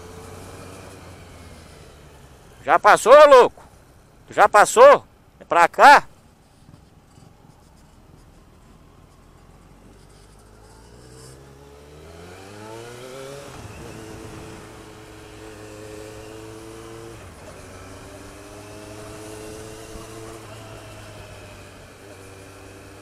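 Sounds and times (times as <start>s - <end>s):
motorcycle engine pulling away: 0.0s - 2.6s, 6.8s - 23.0s.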